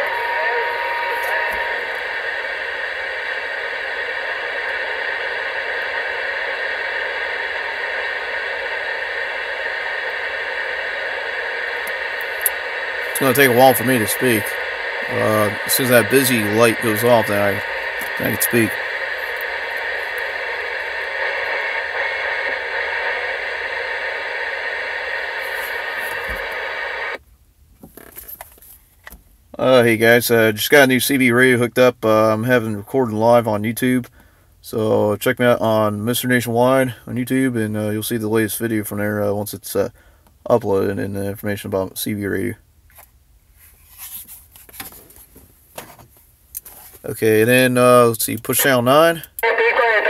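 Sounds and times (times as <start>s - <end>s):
radio static hiss: 0.0s - 27.2s, 29.6s - 42.6s, 46.7s - 50.0s.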